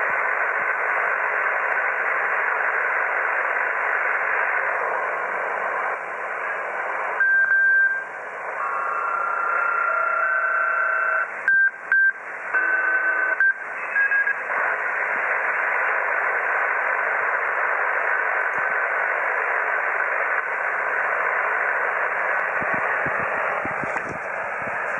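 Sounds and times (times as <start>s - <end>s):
radio white noise hiss: 0.0s - 24.9s.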